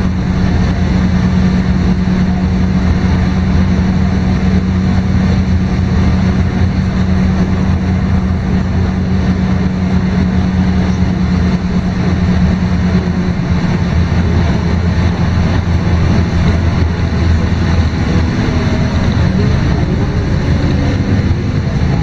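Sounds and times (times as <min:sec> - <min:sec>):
diesel engine drone: 0:00.0 - 0:22.0
road and body rumble: 0:00.0 - 0:22.0.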